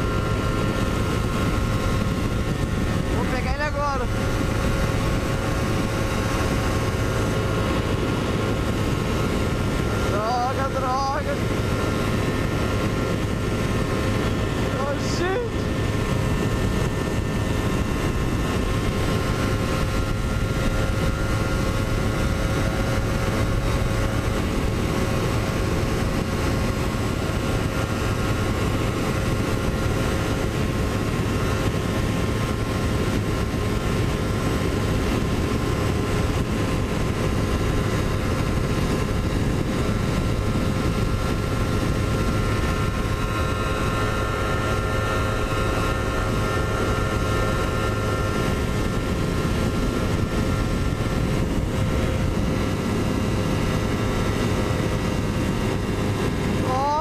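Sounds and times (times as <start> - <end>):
motorcycle engine at high revs: 0.0 - 57.0
wind rushing past microphone: 0.0 - 57.0.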